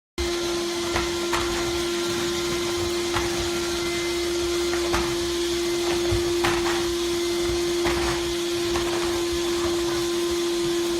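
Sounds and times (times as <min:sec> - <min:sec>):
vacuum cleaner running: 0:00.2 - 0:10.9.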